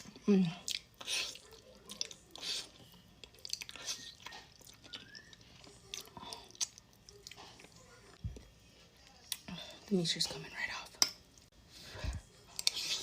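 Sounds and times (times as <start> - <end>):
person chewing food: 0.0 - 9.9, 11.2 - 13.0.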